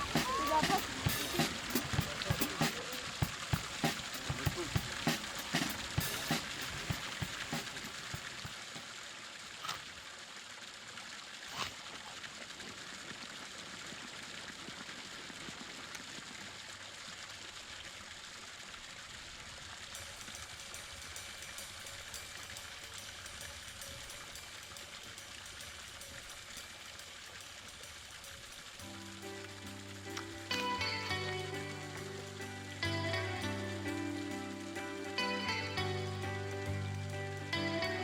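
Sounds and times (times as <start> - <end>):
outdoor background hiss: 0.0 - 38.0.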